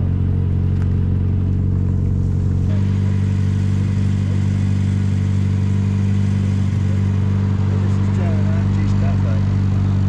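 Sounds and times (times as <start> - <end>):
car engine running: 0.0 - 10.0
road and wind noise: 0.0 - 10.0.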